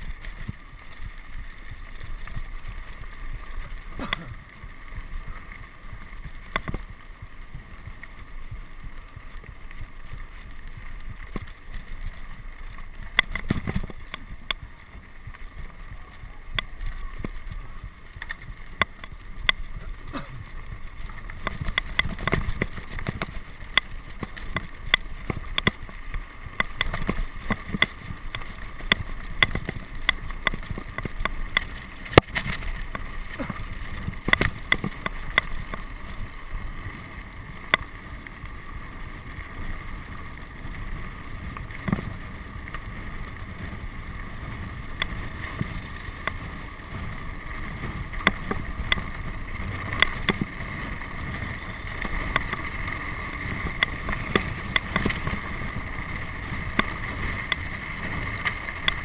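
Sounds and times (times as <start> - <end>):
sharp clicks and rattles: 0.0 - 36.6, 41.5 - 42.9, 44.9 - 59.0
wind rumbling on microphone: 0.0 - 59.0.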